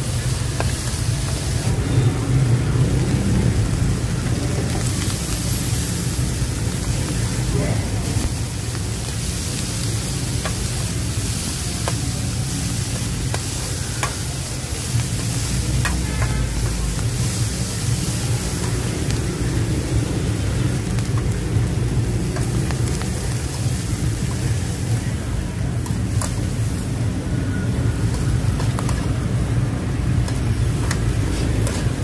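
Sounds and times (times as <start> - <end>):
corn sizzling in a wok: 0.0 - 32.0
steady low rumble: 0.0 - 32.0.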